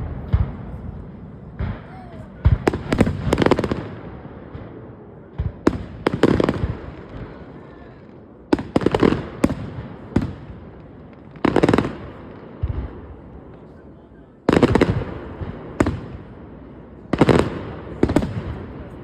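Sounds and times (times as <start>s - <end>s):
fireworks bangs with rumbling echo: 0.0s - 19.0s.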